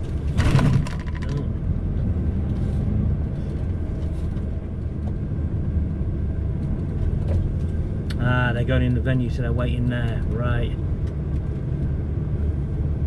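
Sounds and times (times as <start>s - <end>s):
lorry diesel engine drone: 0.0s - 13.0s.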